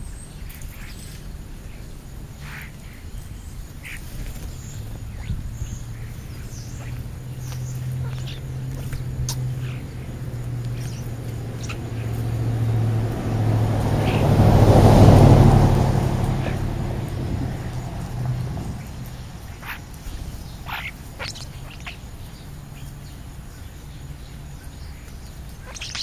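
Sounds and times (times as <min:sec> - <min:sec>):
birds chirping and calling: 0:00.0 - 0:14.4, 0:16.2 - 0:26.0.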